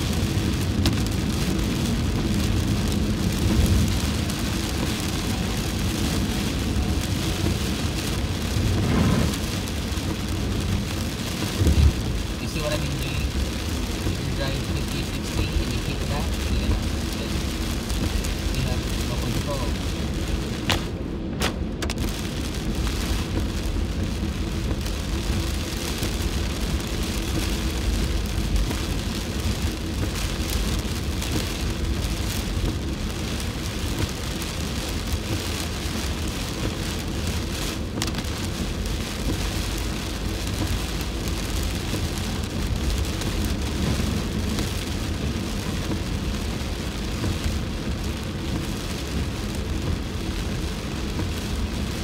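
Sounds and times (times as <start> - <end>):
heavy rain on car windshield: 0.0 - 52.0
tyres rumbling on wet road: 0.0 - 52.0.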